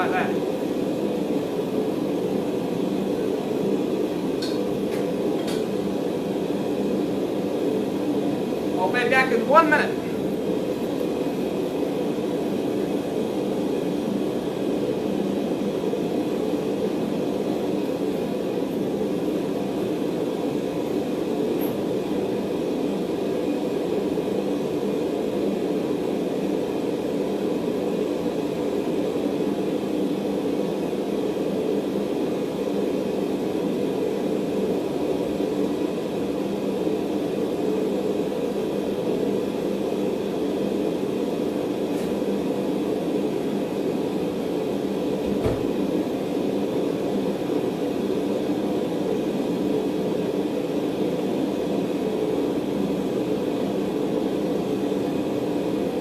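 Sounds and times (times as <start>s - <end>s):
forge droning: 0.0s - 56.0s.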